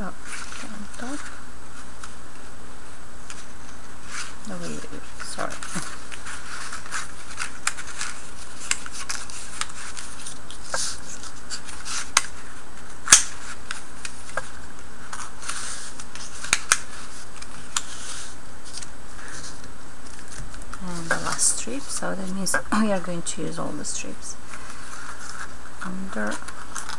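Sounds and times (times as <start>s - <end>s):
faint steady hiss: 0.0s - 26.9s
paper strips rustling and sliding: 0.2s - 22.6s, 24.4s - 26.9s.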